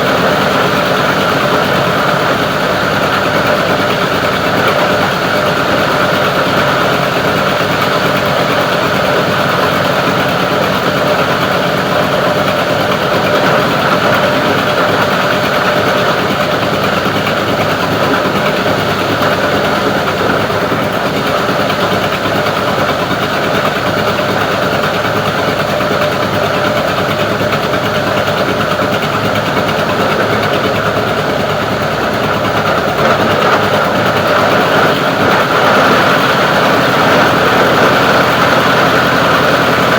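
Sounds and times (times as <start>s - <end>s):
plastic grinding machine running: 0.0s - 39.9s.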